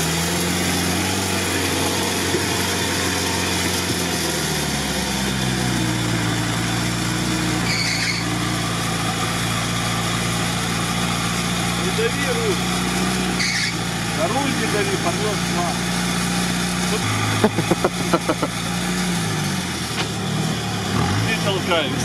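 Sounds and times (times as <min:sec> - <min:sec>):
truck engine under load: 0:00.0 - 0:22.0
tyres churning mud: 0:00.0 - 0:22.0.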